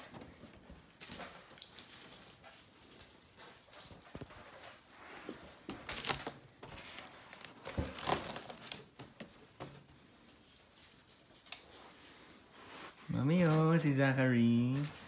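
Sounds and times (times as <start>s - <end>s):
foil balloons crinkling: 0.0s - 15.0s.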